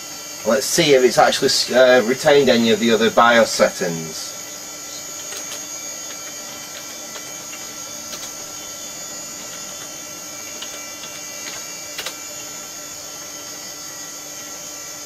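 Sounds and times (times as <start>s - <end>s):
computer equipment hum and whine: 0.0s - 15.0s.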